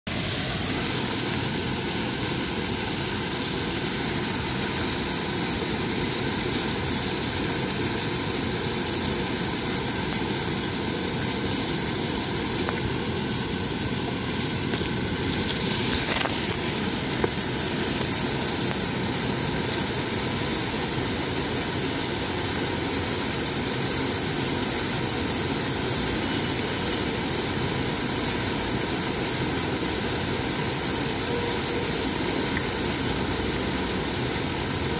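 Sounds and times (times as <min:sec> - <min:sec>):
waterfall rushing and splashing: 0:00.1 - 0:34.9.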